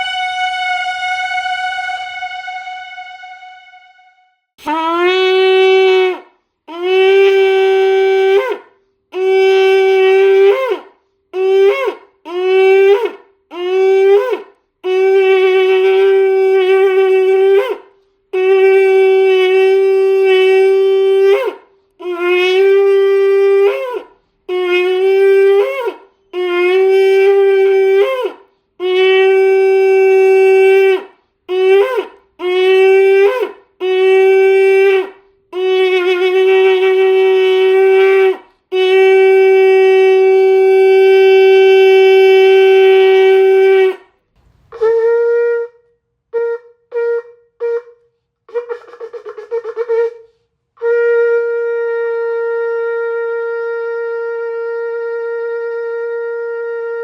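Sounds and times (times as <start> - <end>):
shofar blasts: 0.0 - 57.0.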